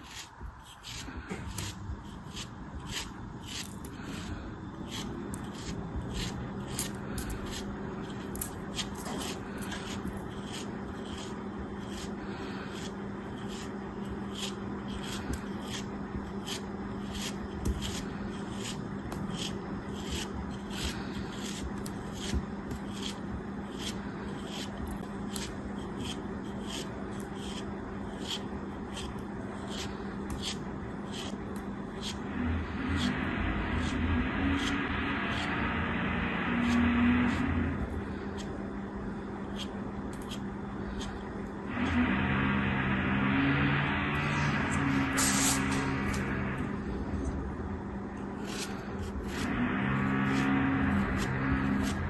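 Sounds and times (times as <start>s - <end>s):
crisp scraping strokes: 0.0s - 47.3s, 48.3s - 52.0s
low hum: 0.0s - 52.0s.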